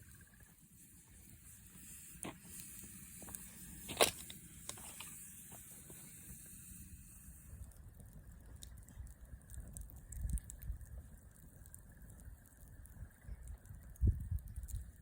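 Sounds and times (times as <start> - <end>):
campfire wood crackling: 0.0 - 15.0.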